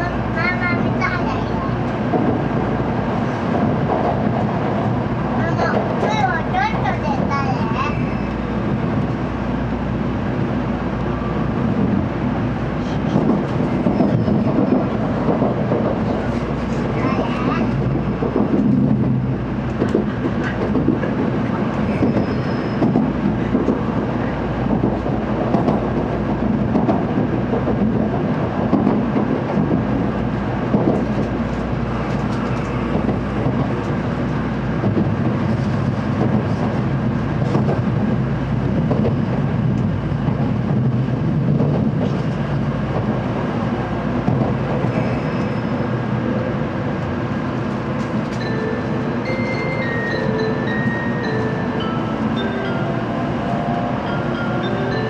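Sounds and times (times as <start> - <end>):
train cabin noise: 0.0 - 55.0.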